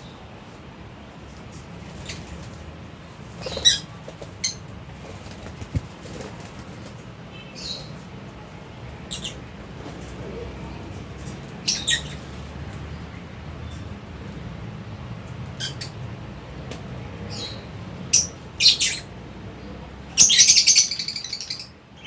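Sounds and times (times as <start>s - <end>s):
birds chirping: 1.5s - 14.4s, 15.0s - 16.2s, 17.0s - 22.0s.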